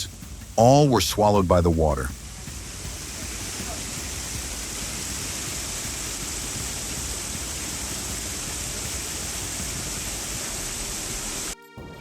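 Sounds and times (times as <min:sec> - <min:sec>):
water rushing with hiss: 0:00.0 - 0:11.6.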